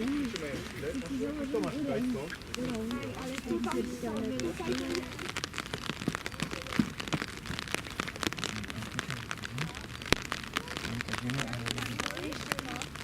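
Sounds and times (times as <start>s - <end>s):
dry leaves crackling underfoot: 0.0s - 13.0s
faint voices: 0.0s - 13.0s.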